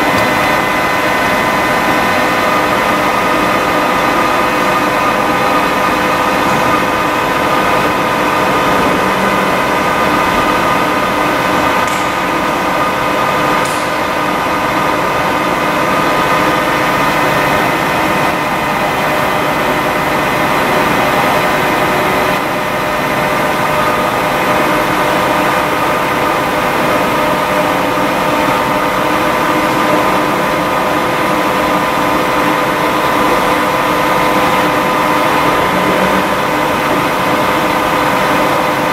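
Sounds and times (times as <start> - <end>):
lathe running with hum and whine: 0.0 - 38.9.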